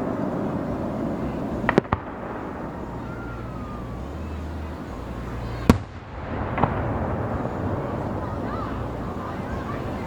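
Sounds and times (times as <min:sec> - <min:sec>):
firework bangs: 0:00.0 - 0:10.0
low background rumble: 0:00.0 - 0:10.0.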